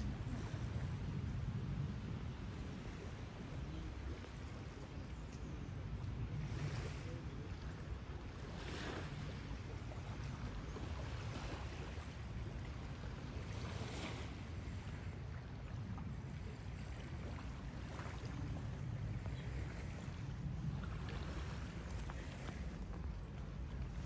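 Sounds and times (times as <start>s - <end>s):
water lapping: 0.0s - 24.0s.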